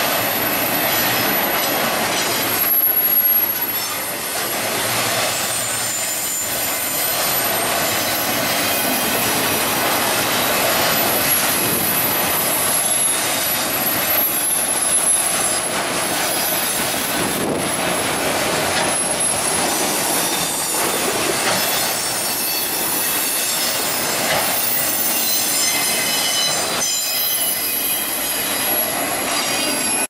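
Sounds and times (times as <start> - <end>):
freight cars rumbling: 0.1 - 25.1
wheels squealing: 0.2 - 30.0.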